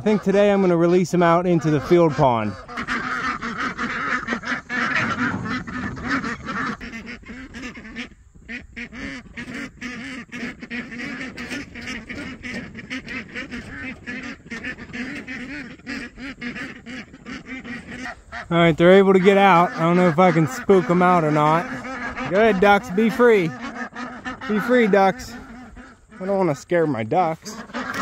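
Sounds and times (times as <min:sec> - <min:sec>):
ducks calling: 0:00.0 - 0:28.0.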